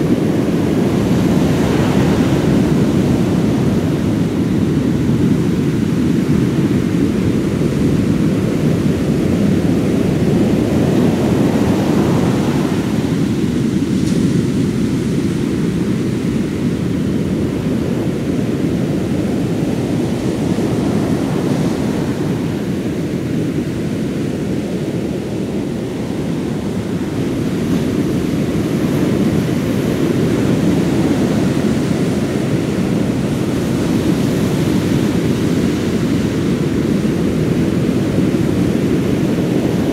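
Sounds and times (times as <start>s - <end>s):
sea surf: 0.0s - 39.9s
wind buffeting microphone: 0.0s - 39.9s.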